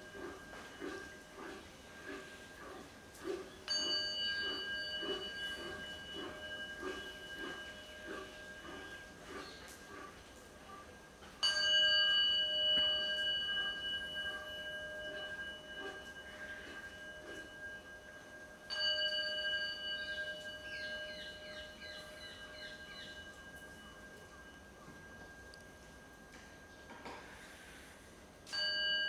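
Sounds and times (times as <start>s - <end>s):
ritual bell ringing: 0.0s - 29.0s.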